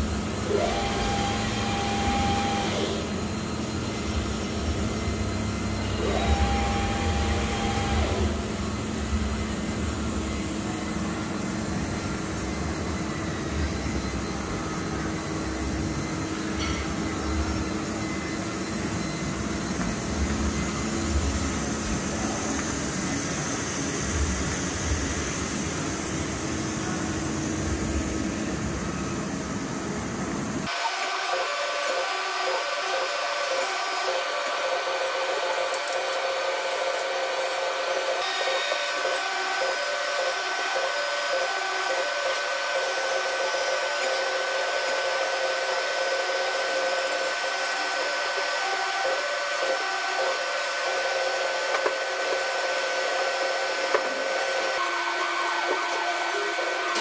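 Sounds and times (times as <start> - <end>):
machine hum and whine: 0.0 - 57.0.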